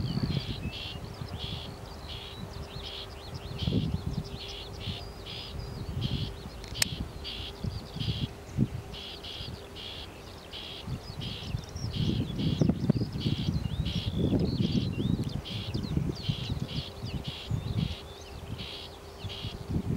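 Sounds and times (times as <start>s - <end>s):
small songbirds chirping: 0.0s - 19.9s
wind rumbling on microphone: 0.0s - 19.9s.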